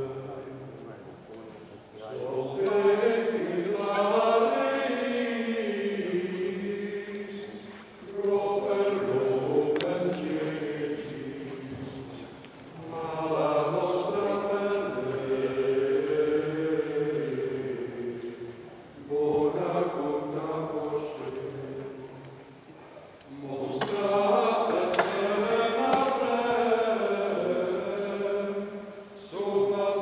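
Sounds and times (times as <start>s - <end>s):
choir chanting a hymn: 0.0s - 1.1s, 1.9s - 30.0s.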